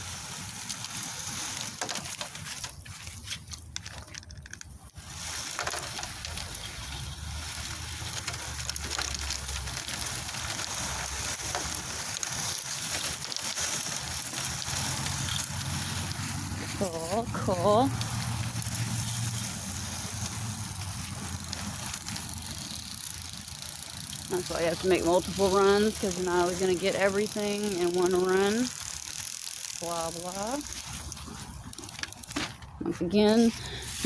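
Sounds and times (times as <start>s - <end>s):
acorns clicking: 0.0s - 34.0s
rustling over grass and leaves: 0.0s - 34.0s.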